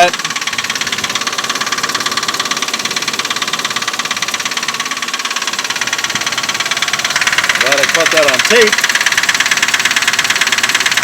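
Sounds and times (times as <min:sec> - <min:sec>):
car engine idling: 0:00.0 - 0:11.0
rapid engine knocking: 0:00.0 - 0:11.0.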